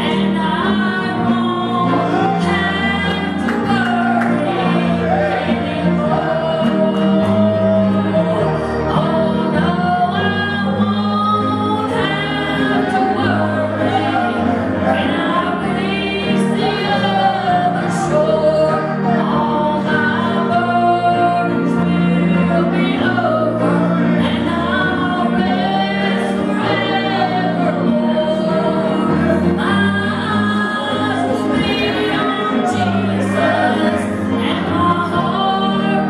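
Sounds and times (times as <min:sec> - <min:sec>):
instrumental accompaniment: 0:00.0 - 0:36.0
woman singing into microphone: 0:00.0 - 0:36.0.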